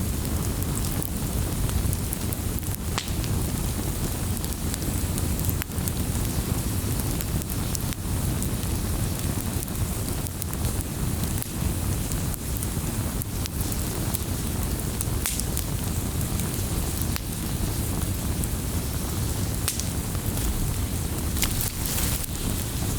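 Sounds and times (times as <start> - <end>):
fire crackling and popping: 0.0 - 22.9
low rush of flames: 0.0 - 22.9.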